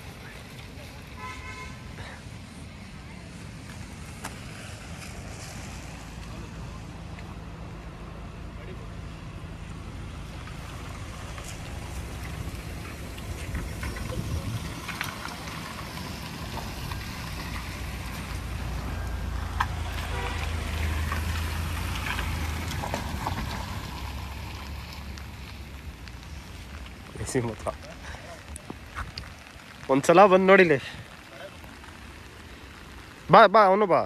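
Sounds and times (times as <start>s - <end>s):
cars driving on wet road: 0.0s - 34.0s.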